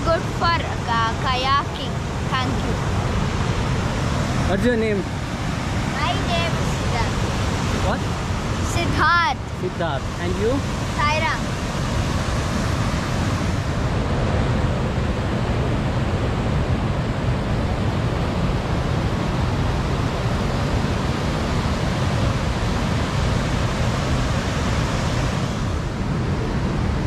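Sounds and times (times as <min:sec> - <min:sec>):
river water rushing over rapids: 0:00.0 - 0:27.0.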